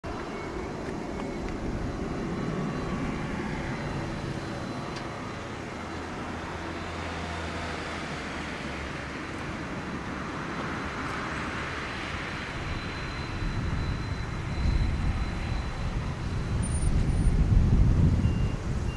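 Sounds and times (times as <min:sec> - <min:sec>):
distant jet engines rumbling: 0:00.0 - 0:18.9
faint high whine: 0:00.1 - 0:18.9.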